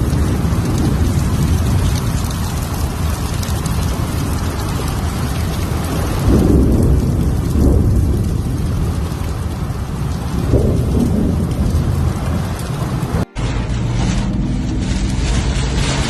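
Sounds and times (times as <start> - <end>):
heavy rain pouring: 0.0 - 16.0
low rumbles: 0.0 - 16.0.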